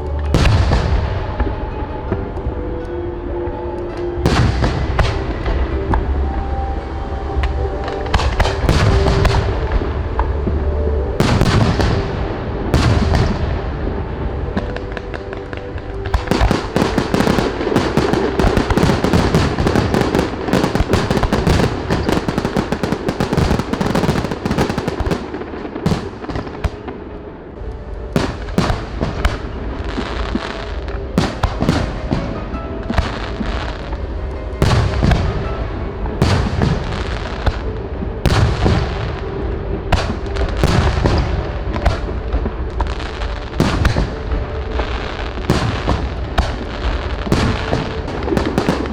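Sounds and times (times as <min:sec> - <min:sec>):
fireworks bangs and crackling: 0:00.0 - 0:02.8, 0:03.6 - 0:06.5, 0:07.4 - 0:48.9
music playing: 0:00.0 - 0:48.9.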